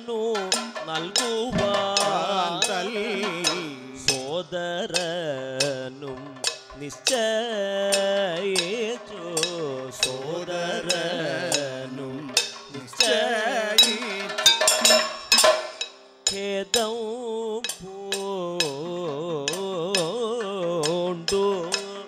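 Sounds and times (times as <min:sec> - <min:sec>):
sharp percussion strikes: 0:00.0 - 0:17.0, 0:17.6 - 0:22.0
person singing wavering notes: 0:00.0 - 0:22.0.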